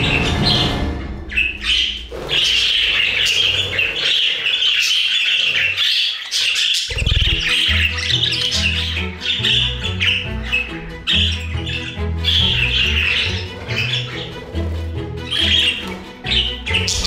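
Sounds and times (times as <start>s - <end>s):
background music: 0.0s - 3.8s, 6.9s - 17.0s
budgerigars chirping and chattering: 0.0s - 17.0s.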